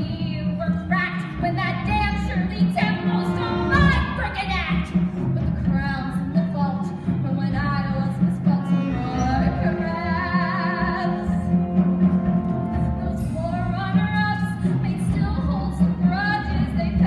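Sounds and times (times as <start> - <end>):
woman singing: 0.0 - 11.5, 12.8 - 17.0
band accompaniment: 0.0 - 17.0.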